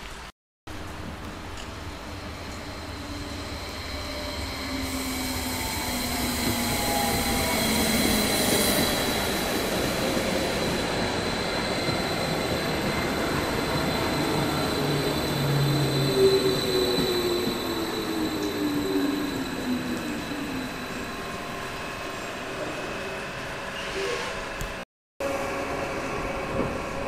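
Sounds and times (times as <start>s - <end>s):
electric train arriving: 0.7s - 27.0s.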